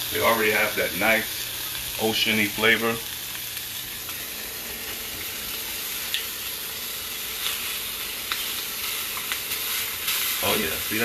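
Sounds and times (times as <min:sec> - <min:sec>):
scallops sizzling in a pan: 0:00.0 - 0:11.0.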